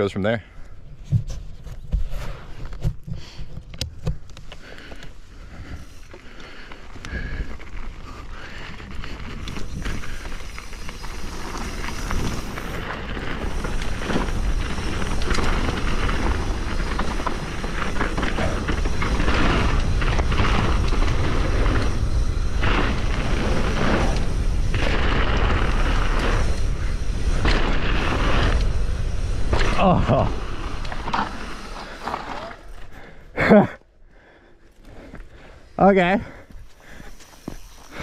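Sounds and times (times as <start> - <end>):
bike tyres on dirt trail: 0.0 - 38.0.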